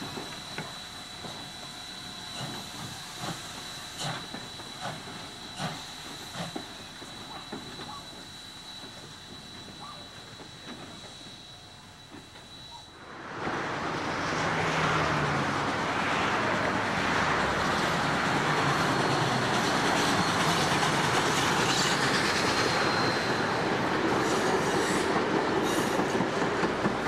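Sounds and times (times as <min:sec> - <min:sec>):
train wheels rumbling and clattering: 0:00.0 - 0:27.0.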